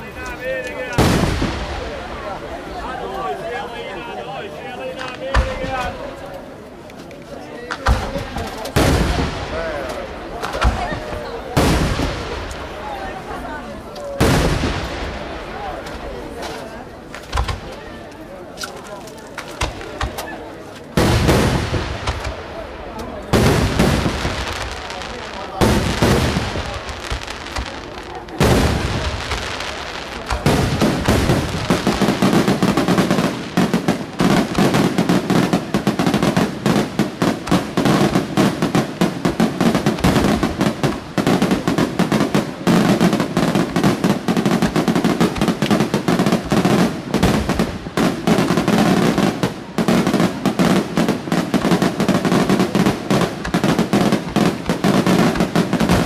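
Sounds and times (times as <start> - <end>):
rapid firework barrage crackling: 0.1 - 3.0, 7.7 - 17.9, 19.4 - 56.0.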